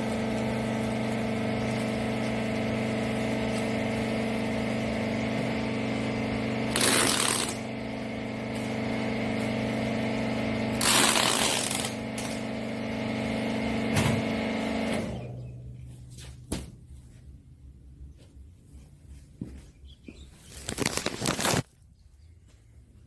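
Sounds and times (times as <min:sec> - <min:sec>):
hydraulic power unit humming: 0:00.0 - 0:21.6.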